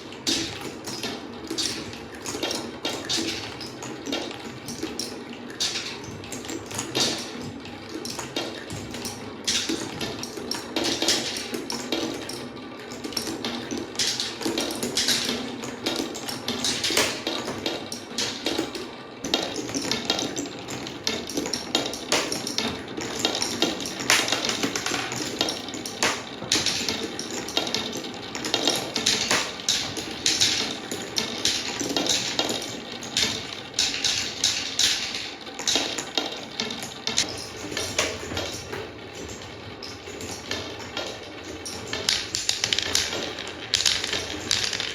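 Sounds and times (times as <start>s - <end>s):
marbles rolling and clacking: 0.2s - 44.9s.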